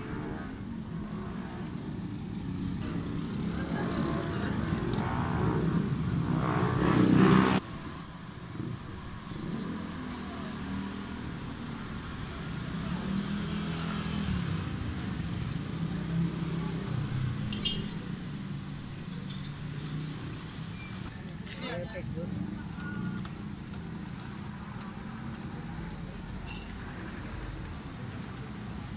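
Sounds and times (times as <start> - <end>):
motorcycle engines: 0.0 - 28.9
street traffic: 0.0 - 28.9.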